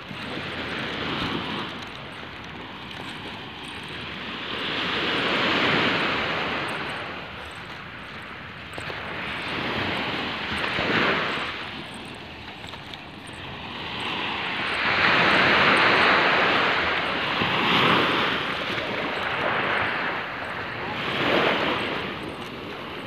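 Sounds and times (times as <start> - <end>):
small waves washing up shore: 0.0 - 23.0.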